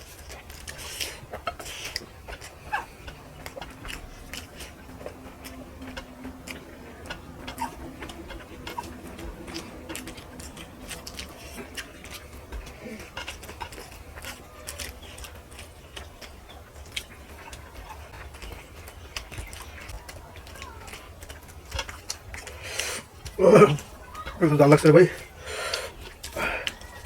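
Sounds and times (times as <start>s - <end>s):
chewing with wet mouth clicks: 0.0s - 24.4s, 25.2s - 27.0s.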